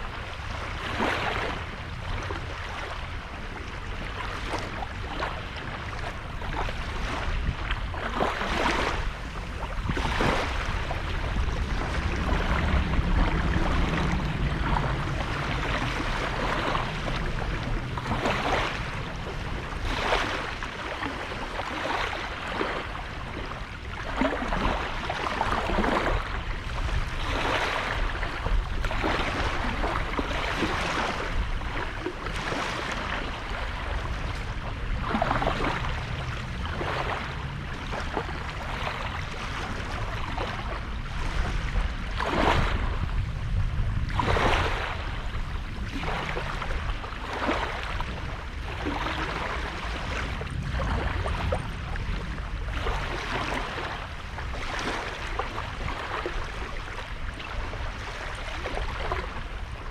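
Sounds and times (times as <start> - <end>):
small waves washing onto shore: 0.0 - 59.9
steady low rumble: 0.0 - 59.9.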